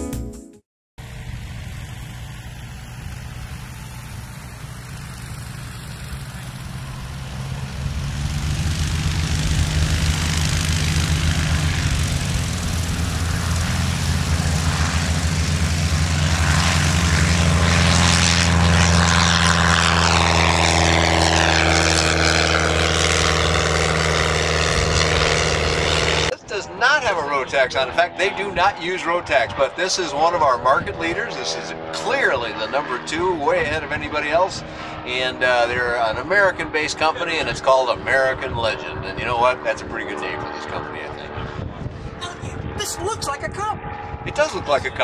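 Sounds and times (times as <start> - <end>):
light aircraft engine and propeller: 1.0 - 45.0.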